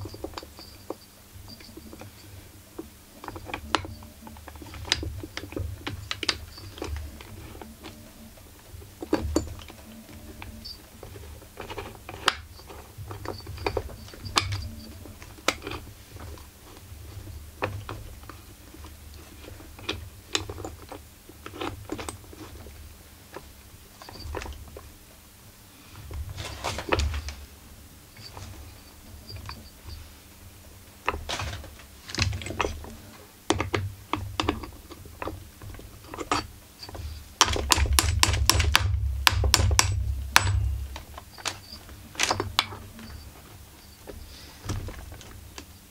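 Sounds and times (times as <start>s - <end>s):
handling rumble: 0.0s - 45.9s.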